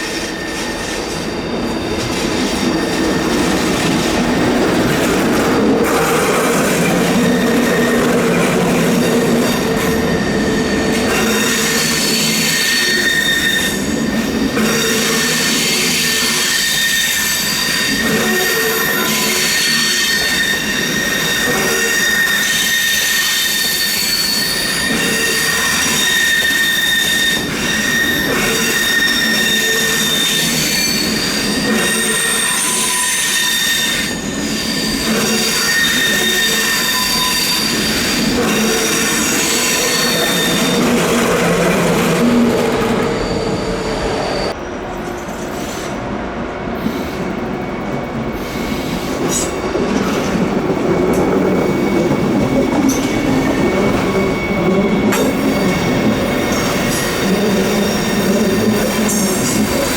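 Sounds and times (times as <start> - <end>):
train wheels squealing: 0.0 - 59.9.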